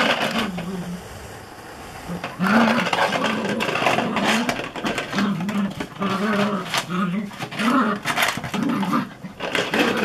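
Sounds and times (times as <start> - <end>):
plastic pot scraping on tarmac: 0.0 - 0.8, 2.1 - 10.0
puppy growling: 0.0 - 1.1, 2.1 - 10.0.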